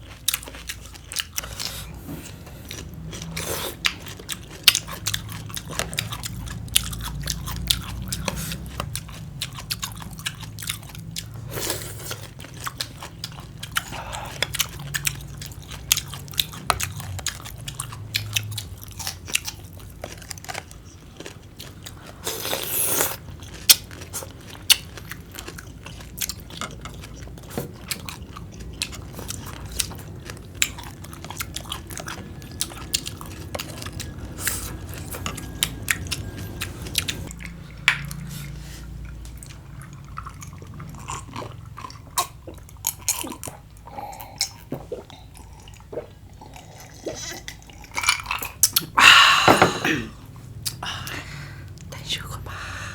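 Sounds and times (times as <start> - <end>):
chewing crunchy salad: 0.0 - 49.0.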